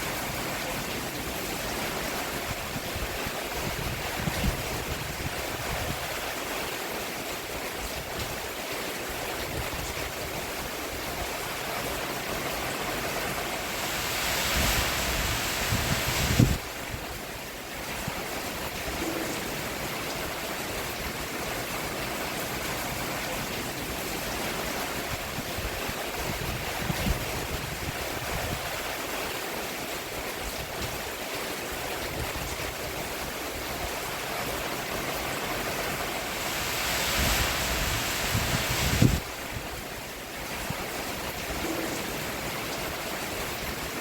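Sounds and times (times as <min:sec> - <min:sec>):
rain falling on a roof: 0:00.0 - 0:44.0.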